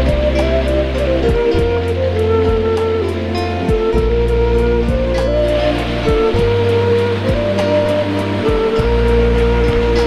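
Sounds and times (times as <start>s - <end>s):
background music with beat: 0.0s - 10.0s
waterfall rushing: 0.0s - 10.0s.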